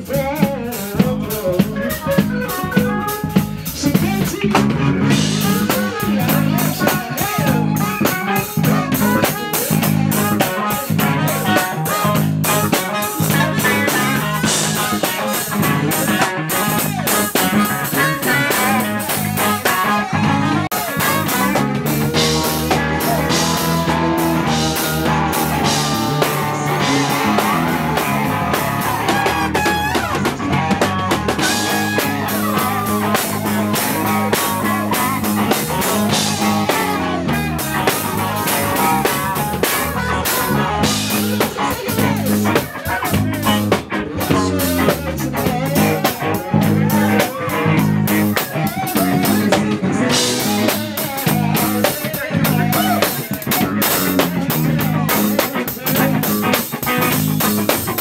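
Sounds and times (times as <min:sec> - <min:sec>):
drum kit beat: 0:00.0 - 0:58.0
electric guitar: 0:00.0 - 0:58.0
low bass notes: 0:00.0 - 0:58.0.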